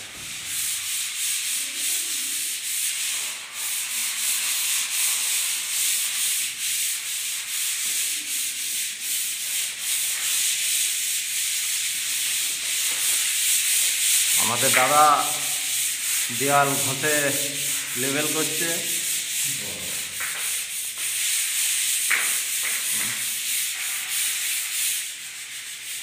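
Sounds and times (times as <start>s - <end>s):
sandpaper scratching on wall: 0.0s - 26.0s.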